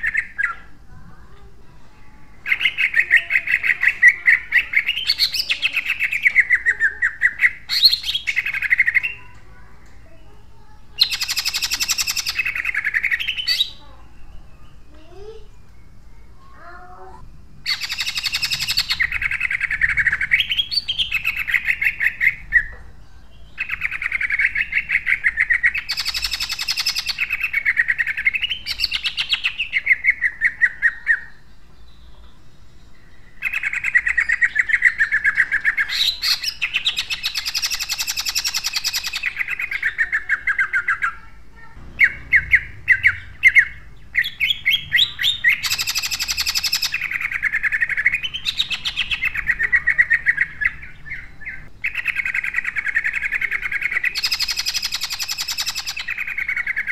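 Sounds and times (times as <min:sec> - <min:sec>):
bird singing fast repeated notes: 0:00.0 - 0:00.9, 0:02.0 - 0:56.9
sharp bird chirps: 0:00.0 - 0:01.4, 0:02.0 - 0:56.9.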